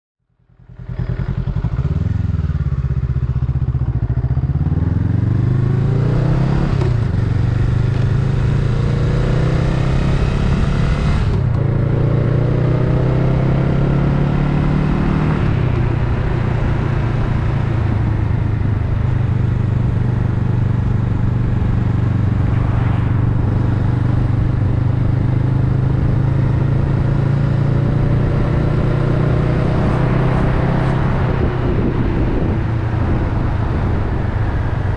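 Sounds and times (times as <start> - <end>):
motorcycle engine accelerating: 0.4 - 34.9.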